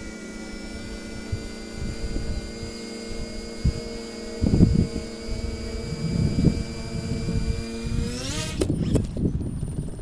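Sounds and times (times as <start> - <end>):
electric propeller motors whining: 0.0 - 10.0.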